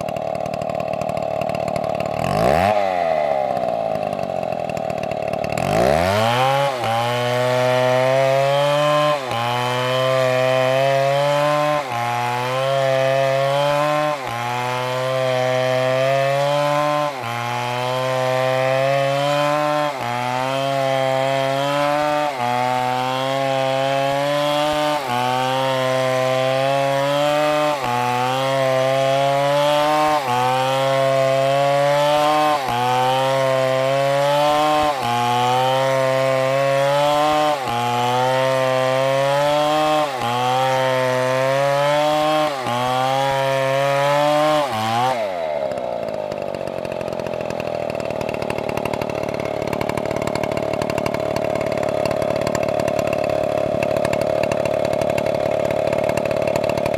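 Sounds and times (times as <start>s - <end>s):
chainsaw cutting at full throttle: 0.0s - 56.9s.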